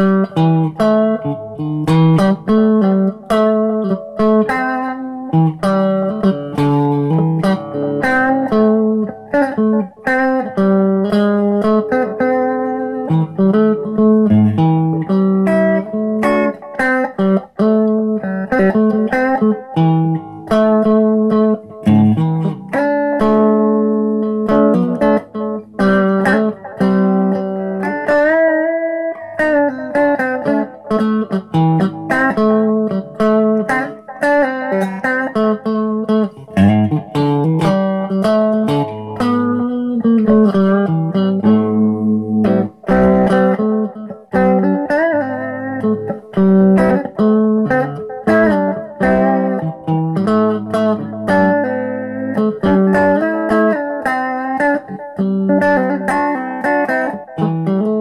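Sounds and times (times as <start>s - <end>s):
fingerpicked solo guitar: 0.0s - 58.0s.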